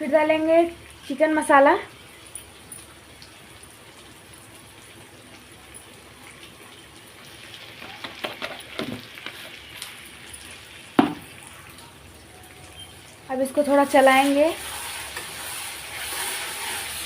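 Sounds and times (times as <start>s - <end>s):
spices sizzling in oil: 0.0s - 17.0s.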